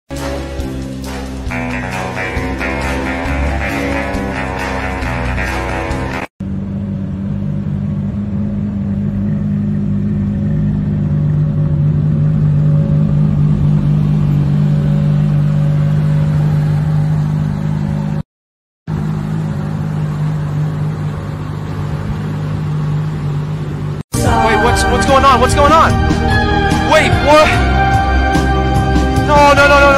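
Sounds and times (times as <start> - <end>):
car engine idling low: 0.3 - 18.2, 18.9 - 29.9.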